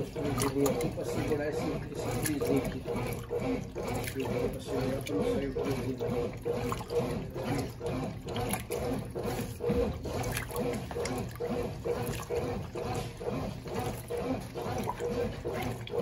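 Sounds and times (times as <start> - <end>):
washing machine agitating: 0.0 - 16.0
water sloshing: 0.0 - 16.0.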